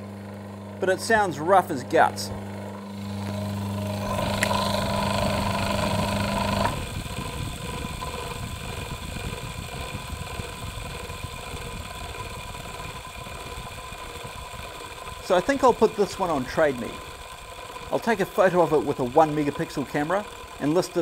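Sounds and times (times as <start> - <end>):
electric motor humming: 0.0 - 21.0
motor spinning down with rumble: 0.0 - 21.0.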